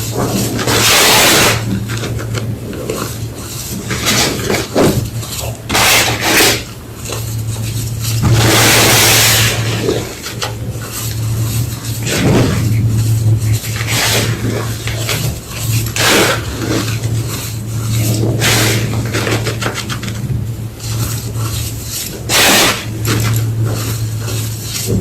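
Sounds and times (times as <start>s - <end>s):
chalk crunching by hand: 0.0s - 25.0s
steady low hum: 0.0s - 25.0s.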